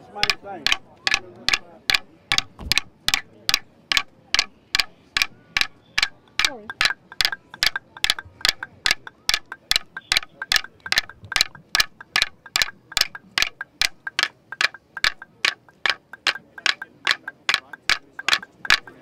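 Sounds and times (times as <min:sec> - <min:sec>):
wooden clapsticks striking: 0:00.2 - 0:19.0.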